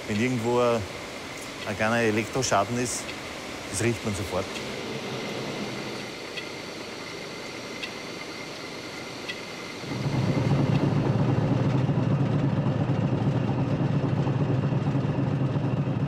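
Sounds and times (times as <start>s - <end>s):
thin high whine: 0.0s - 13.5s
electric train rumbling on track: 0.0s - 16.0s
water turbine humming: 0.0s - 16.0s.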